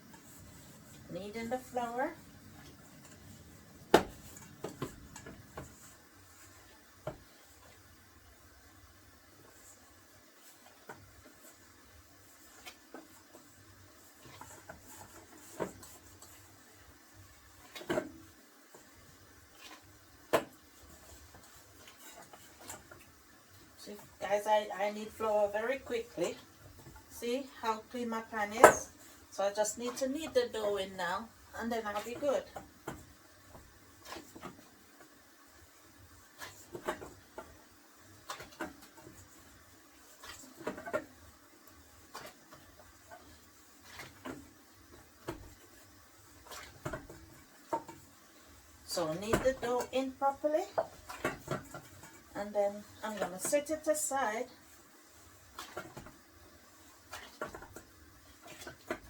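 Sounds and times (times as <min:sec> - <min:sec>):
dough being kneaded by hand: 0:00.0 - 0:59.0.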